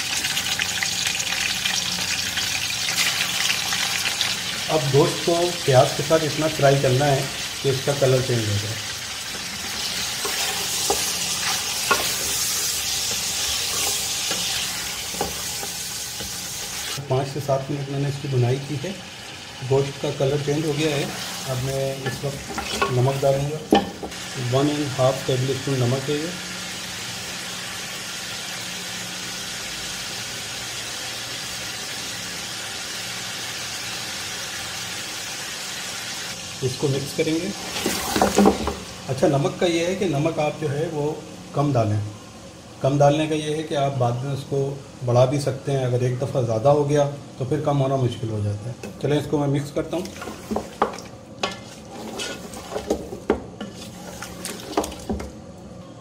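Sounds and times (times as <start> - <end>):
meat sizzling in a pot: 0.0 - 45.9, 49.0 - 55.3.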